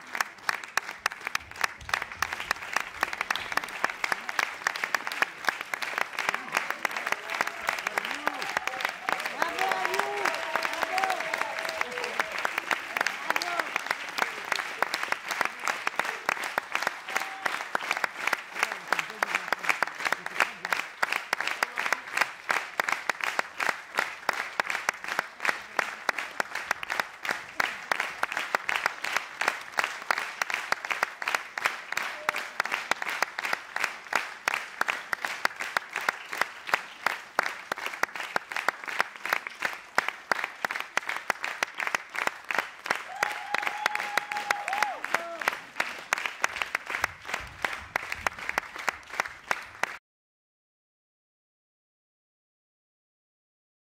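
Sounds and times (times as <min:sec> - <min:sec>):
audience clapping in rhythm: 0:00.0 - 0:50.0.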